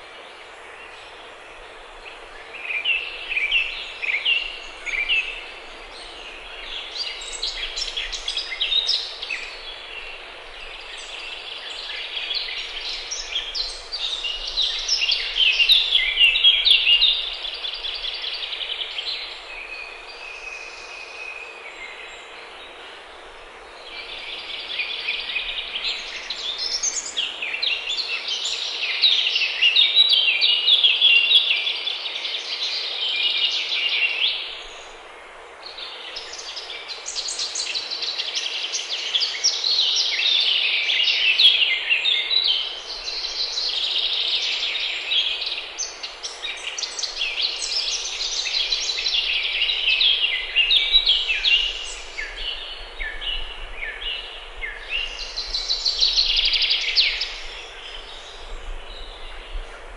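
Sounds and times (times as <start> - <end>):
forest birds singing: 0.0 - 59.9
steady background hiss: 0.0 - 59.9.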